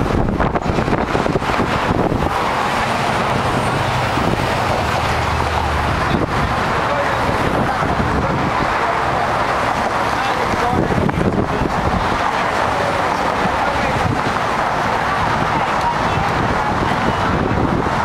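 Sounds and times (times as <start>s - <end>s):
road traffic passing: 0.0s - 18.0s
wind on microphone: 0.0s - 18.0s.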